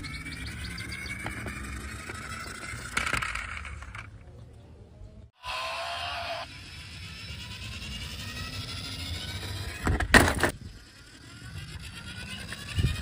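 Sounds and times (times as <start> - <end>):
toy car motor whining: 0.0 - 4.2, 5.4 - 13.0.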